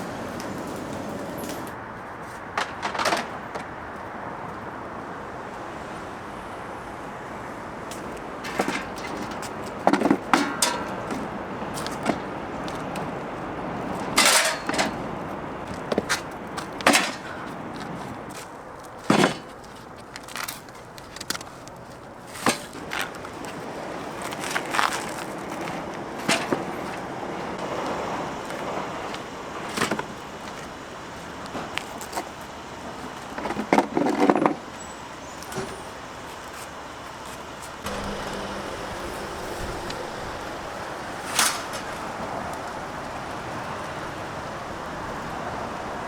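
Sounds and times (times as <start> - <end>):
steady background noise: 0.0 - 46.0.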